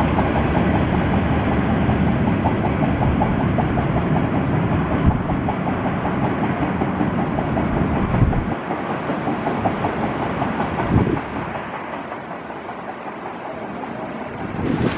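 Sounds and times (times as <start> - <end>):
freight train wheels clicking: 0.0 - 14.9.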